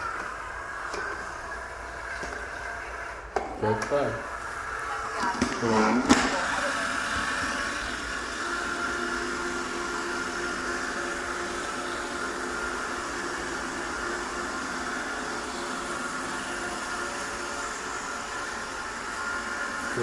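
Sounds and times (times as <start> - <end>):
robot vacuum cleaner whirring: 0.0 - 20.0.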